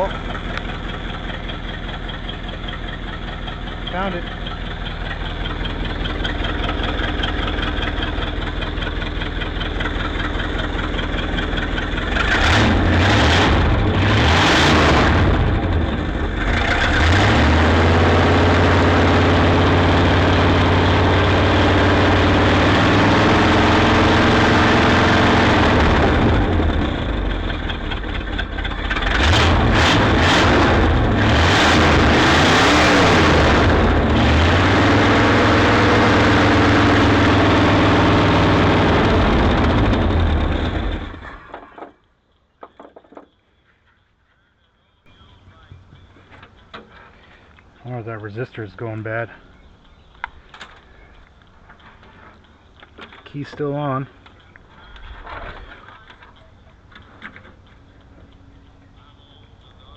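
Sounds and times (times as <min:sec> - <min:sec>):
car engine idling and revving: 0:00.0 - 0:42.0, 0:45.1 - 0:59.9.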